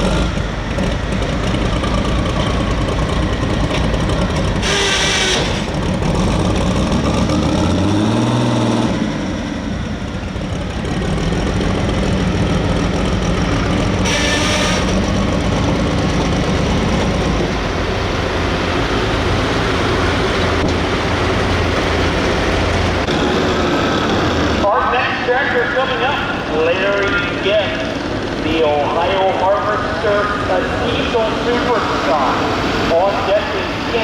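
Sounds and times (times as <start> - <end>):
diesel tractor engine revving: 0.0 - 34.0.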